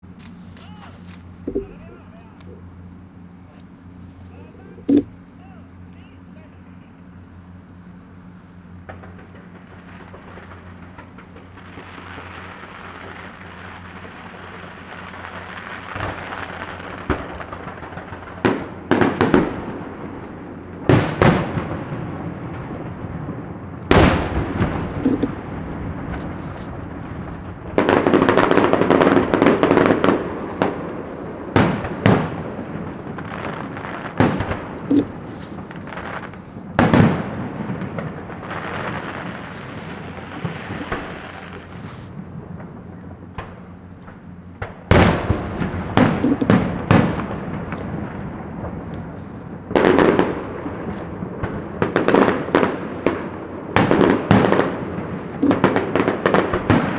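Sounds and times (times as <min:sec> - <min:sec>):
fireworks bangs: 0:00.2 - 0:02.7, 0:03.5 - 0:06.9, 0:08.8 - 0:56.9
fireworks rapid crackling: 0:00.2 - 0:02.7, 0:08.8 - 0:56.9.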